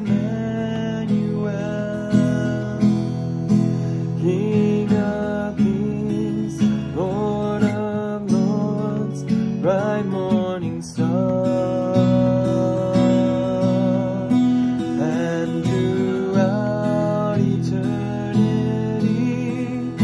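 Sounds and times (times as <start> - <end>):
acoustic guitar strumming: 0.0 - 20.0
sliding guitar melody: 0.0 - 20.0.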